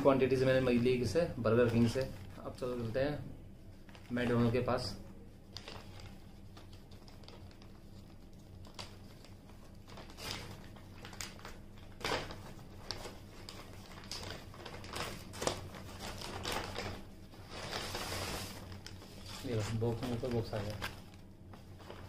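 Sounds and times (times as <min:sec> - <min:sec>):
faint low hum: 0:00.0 - 0:22.0
paper bag rustling and crinkling: 0:03.8 - 0:22.0.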